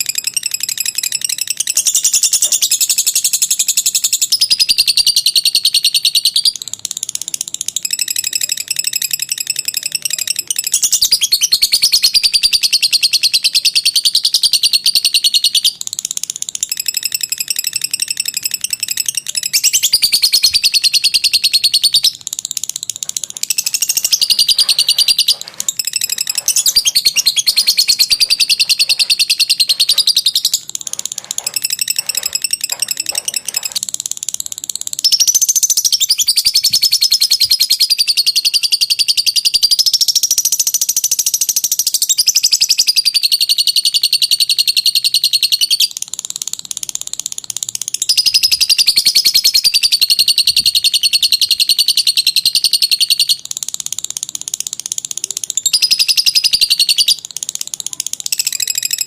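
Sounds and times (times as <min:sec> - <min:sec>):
lovebird chattering trills: 0:00.0 - 0:59.0.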